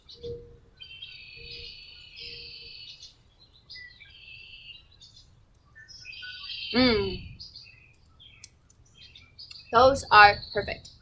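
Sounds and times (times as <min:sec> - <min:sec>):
small birds singing: 0:00.0 - 0:11.0.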